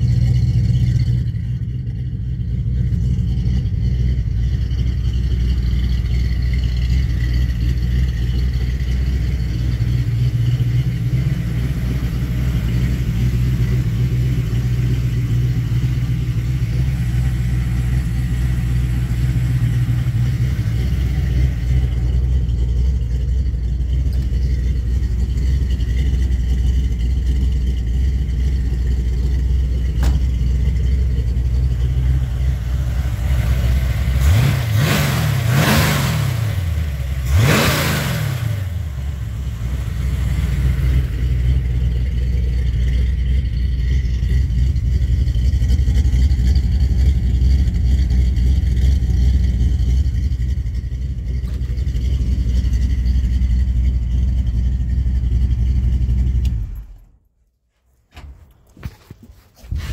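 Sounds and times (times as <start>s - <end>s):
car engine idling and revving: 0.0s - 57.3s, 58.1s - 59.9s.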